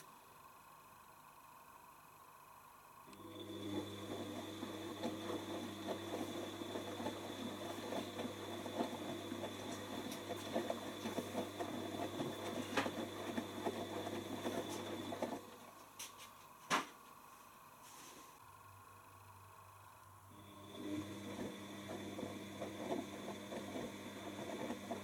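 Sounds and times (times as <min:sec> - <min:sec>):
washing machine motor humming: 0:00.0 - 0:16.1, 0:18.4 - 0:25.0.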